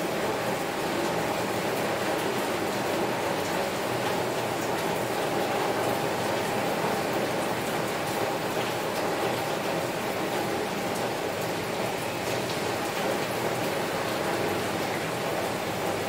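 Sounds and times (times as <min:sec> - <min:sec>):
heavy rain hissing on window: 0:00.0 - 0:16.0.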